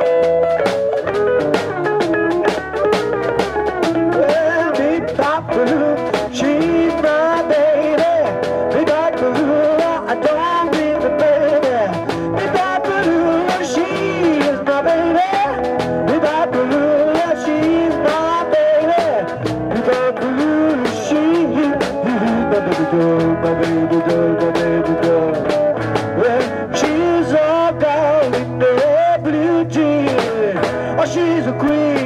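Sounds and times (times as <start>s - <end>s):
blues harmonica lead line: 0.0s - 32.0s
rock band playing: 0.0s - 32.0s.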